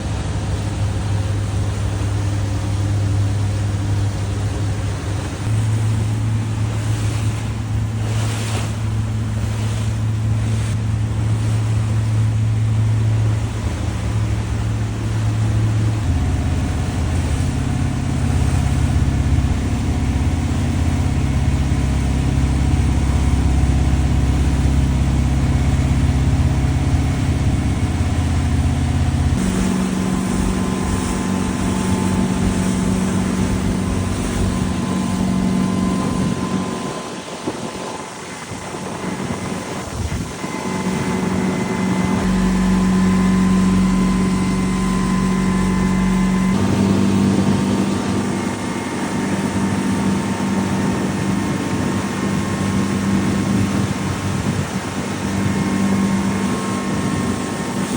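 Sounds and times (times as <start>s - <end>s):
motorboat engine running: 0.0s - 57.9s
wind and water rushing: 0.0s - 57.9s.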